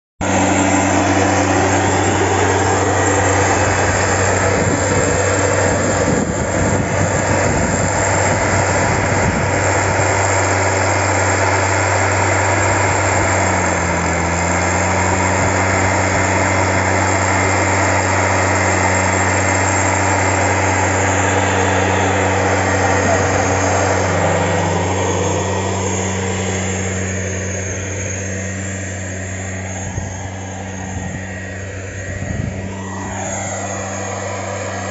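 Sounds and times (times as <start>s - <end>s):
two-stroke engine running: 0.2s - 34.9s.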